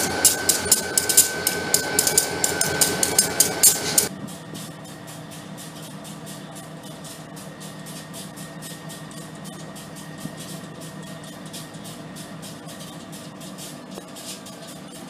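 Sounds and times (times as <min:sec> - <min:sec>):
diesel locomotive engine idling: 0:00.0 - 0:15.0.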